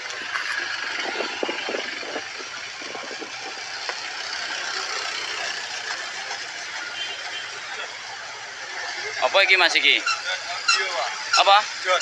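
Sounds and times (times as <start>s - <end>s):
engine idling: 0.0s - 12.0s
outdoor hubbub: 0.0s - 12.0s.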